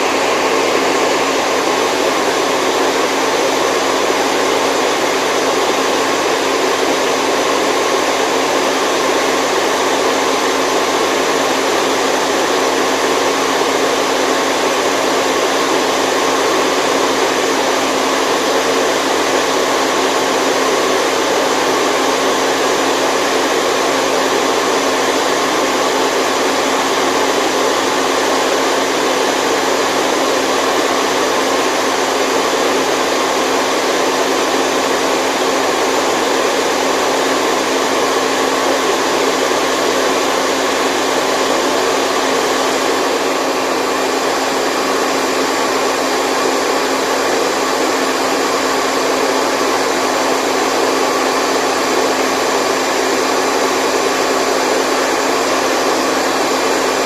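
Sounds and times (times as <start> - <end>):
rushing white noise: 0.0 - 57.0.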